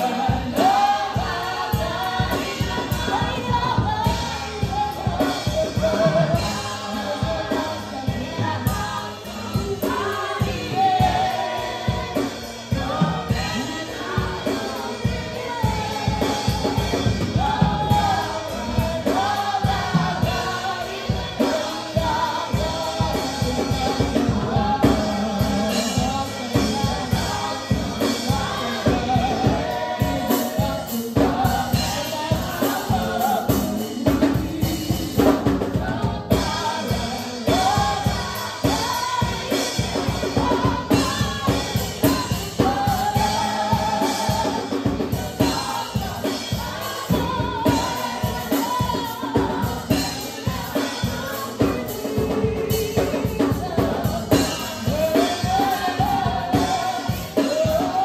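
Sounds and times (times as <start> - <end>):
backing singers: 0.0 - 58.0
drum kit beat: 0.0 - 58.0
woman singing lead: 0.0 - 58.0.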